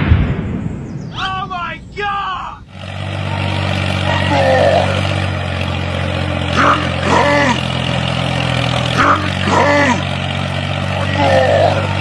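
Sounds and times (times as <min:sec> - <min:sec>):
tractor engine humming: 0:00.0 - 0:12.0.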